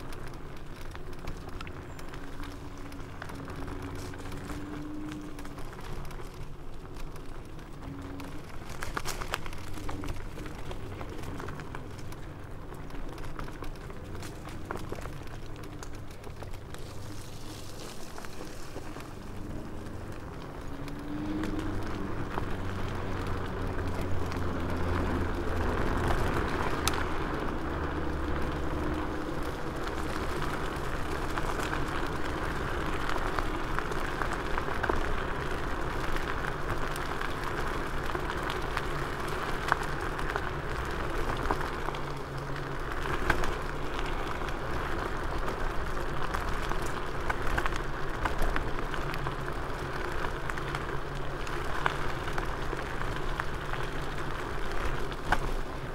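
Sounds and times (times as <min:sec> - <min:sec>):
tyres rolling over gravel: 0:00.0 - 0:55.9.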